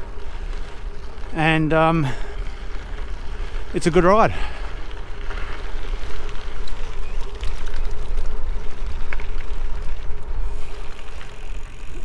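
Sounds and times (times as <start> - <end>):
bike tyres rolling on gravel: 0.0 - 12.0.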